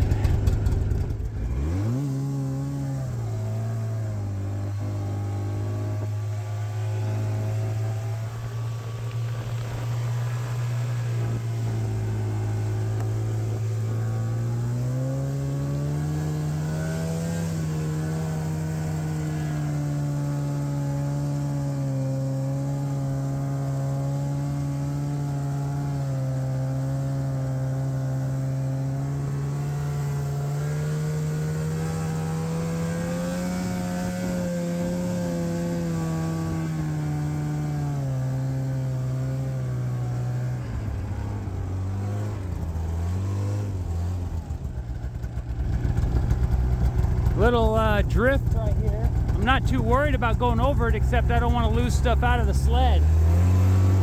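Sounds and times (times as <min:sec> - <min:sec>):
snowmobile engine running under load: 0:00.0 - 0:54.0.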